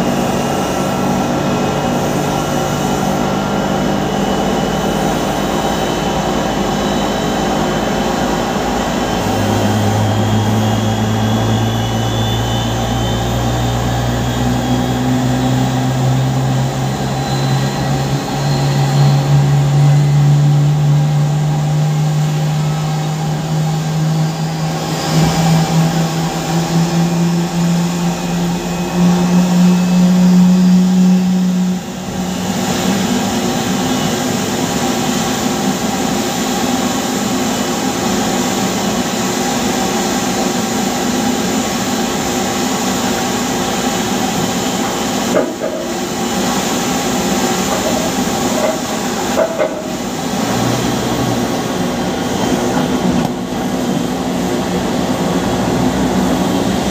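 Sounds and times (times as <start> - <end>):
aircraft engine hum: 0.0 - 56.9.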